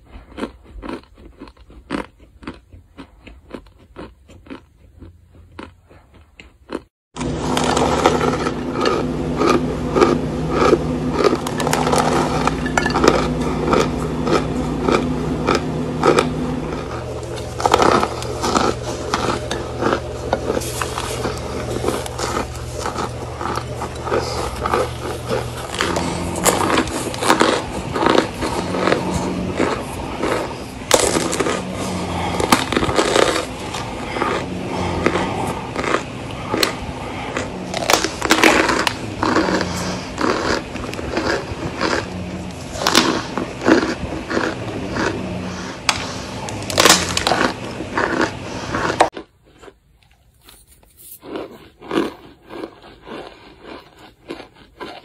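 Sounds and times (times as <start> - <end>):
cornstarch crunching: 0.0 - 55.0.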